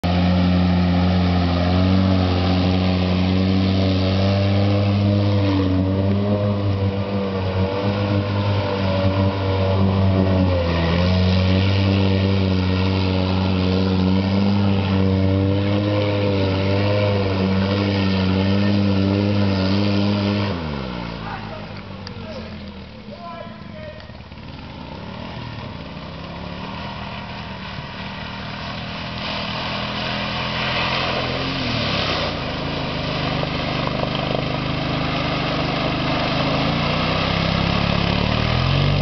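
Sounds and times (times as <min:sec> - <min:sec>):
quad engine revving hard: 0:00.0 - 0:39.0.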